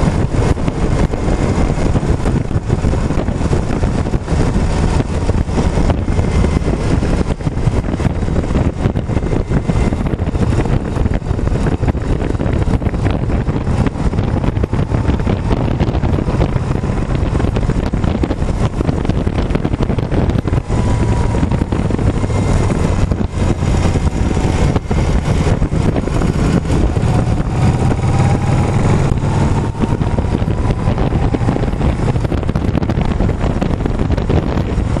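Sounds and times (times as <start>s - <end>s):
motorcycle engine rumble: 0.0s - 35.0s
wind buffeting microphone: 0.0s - 35.0s.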